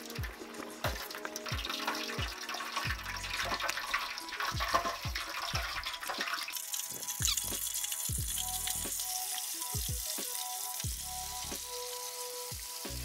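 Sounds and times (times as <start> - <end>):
background music with steady beat: 0.0 - 13.0
bubbling liquid hissing: 0.0 - 13.0.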